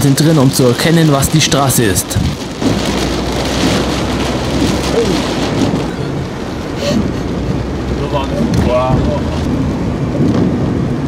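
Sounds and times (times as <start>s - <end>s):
heavy rain on car roof: 0.0s - 11.0s.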